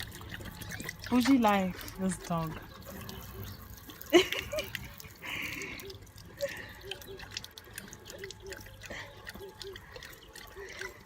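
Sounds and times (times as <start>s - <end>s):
dog lapping water: 0.0s - 11.0s
water trickling from tap: 0.0s - 11.0s.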